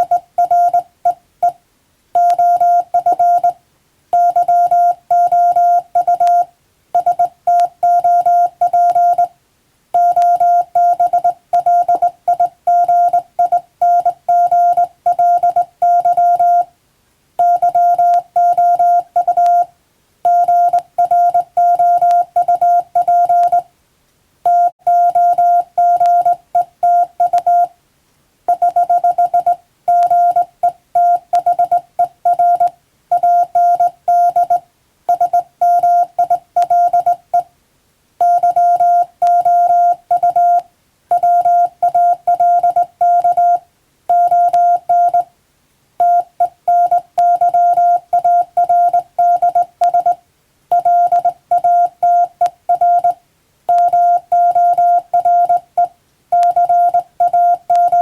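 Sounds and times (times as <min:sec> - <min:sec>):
morse code beeps: 0:00.0 - 0:01.6, 0:02.2 - 0:03.6, 0:04.2 - 0:09.3, 0:10.0 - 0:16.7, 0:17.4 - 0:19.7, 0:20.3 - 0:23.6, 0:24.5 - 0:27.7, 0:28.5 - 0:37.4, 0:38.2 - 0:45.3, 0:46.0 - 0:58.0.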